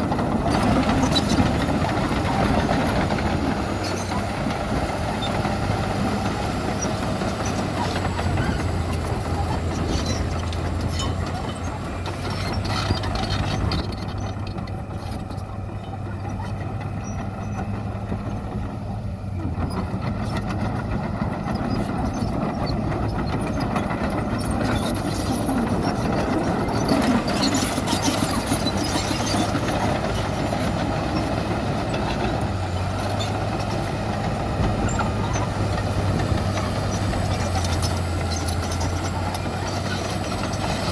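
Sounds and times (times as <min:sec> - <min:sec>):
heavy diesel machinery engine: 0:00.0 - 0:40.9.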